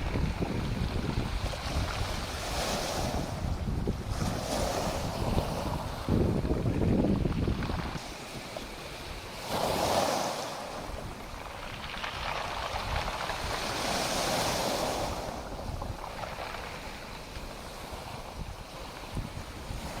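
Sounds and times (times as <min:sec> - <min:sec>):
sea waves washing onto shore: 0:00.0 - 0:20.0.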